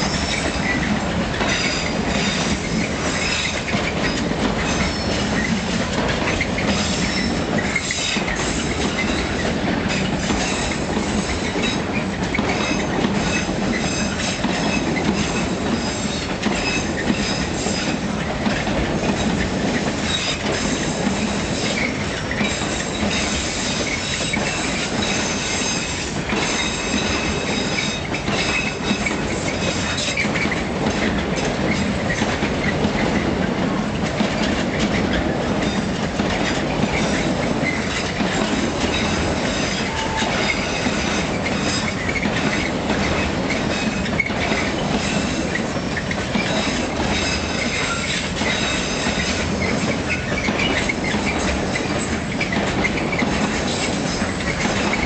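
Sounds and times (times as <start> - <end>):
freight train rumbling past: 0.0 - 55.0
wheels clattering over rails: 0.0 - 55.0.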